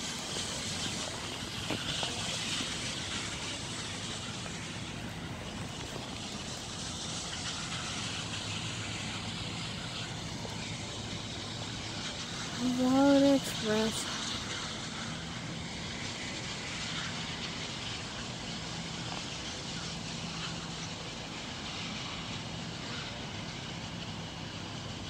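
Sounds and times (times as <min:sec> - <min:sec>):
low engine hum: 0:00.0 - 0:25.0
vehicles rumbling and hissing: 0:00.0 - 0:25.0.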